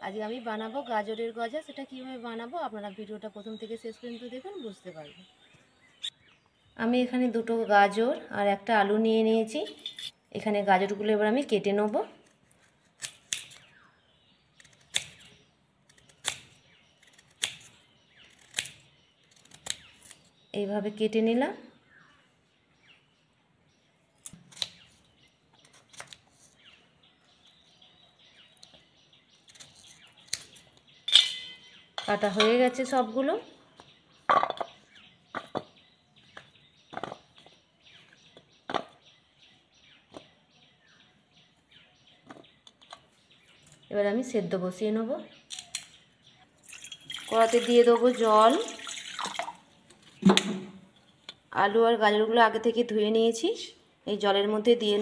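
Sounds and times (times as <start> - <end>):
birds chirping faintly: 0.0 - 55.0.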